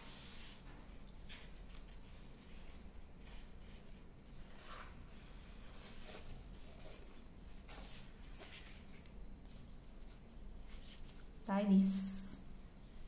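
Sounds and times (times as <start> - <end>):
soft paper and ribbon rustles: 0.0 - 11.3.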